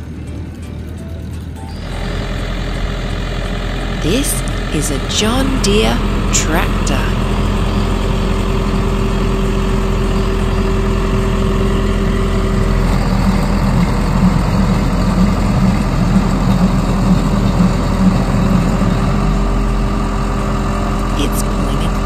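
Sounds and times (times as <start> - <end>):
tractor engine running: 0.1 - 22.0.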